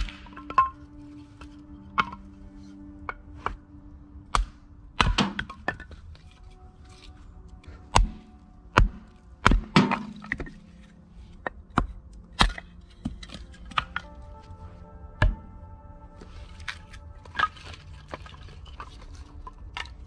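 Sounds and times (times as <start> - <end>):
axe splitting firewood: 0.0 - 2.4, 4.3 - 14.4, 15.2 - 15.5, 16.2 - 20.0.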